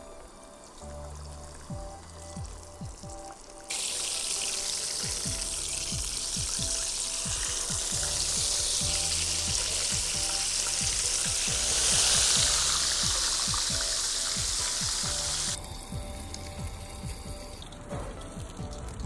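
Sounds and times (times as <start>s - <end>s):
fish sizzling in hot oil: 2.1s - 17.8s.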